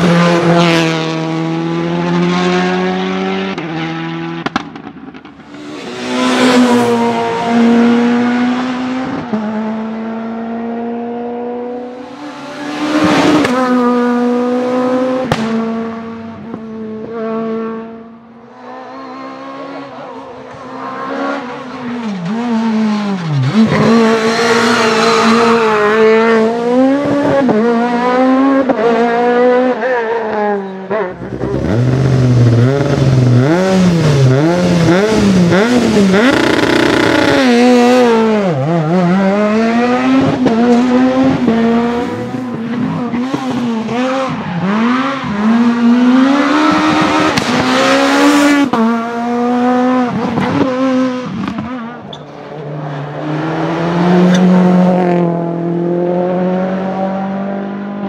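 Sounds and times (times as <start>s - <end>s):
rally cars revving past: 0.0s - 58.0s.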